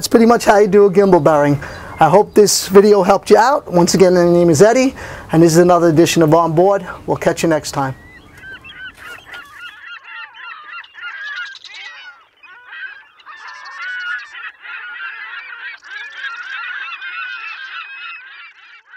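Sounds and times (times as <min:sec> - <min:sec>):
flock of birds calling: 0:00.0 - 0:18.9.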